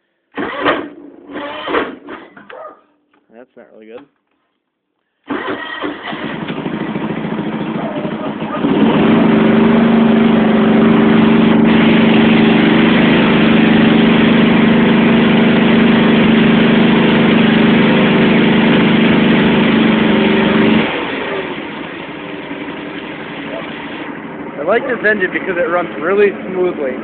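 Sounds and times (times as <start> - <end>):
lawn tractor engine running: 0.4 - 2.4, 5.3 - 27.0.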